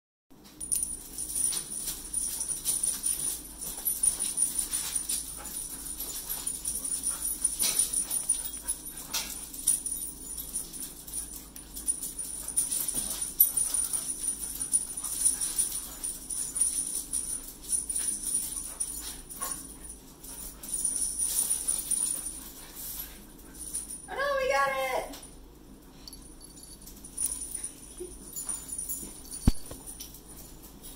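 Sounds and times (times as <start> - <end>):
light jingling: 0.4 - 30.9.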